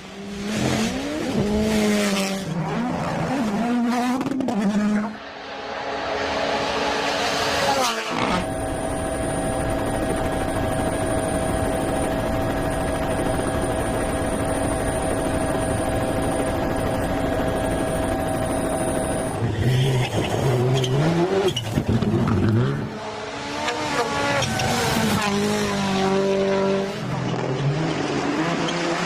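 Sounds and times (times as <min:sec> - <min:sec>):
rally car engine and road drone: 0:00.0 - 0:29.0.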